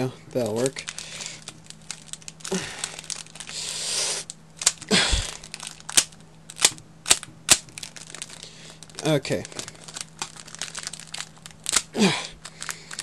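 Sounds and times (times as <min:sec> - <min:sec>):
foil wrapper crinkling and tearing: 0:00.4 - 0:13.0.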